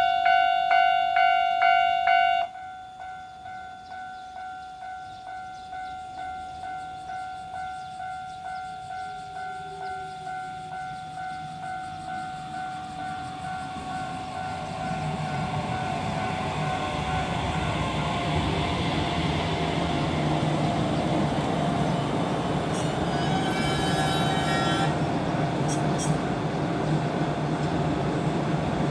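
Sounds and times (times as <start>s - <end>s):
crossing bell ringing: 0.0s - 18.1s, 21.0s - 26.2s
arriving train rumble: 0.0s - 28.9s.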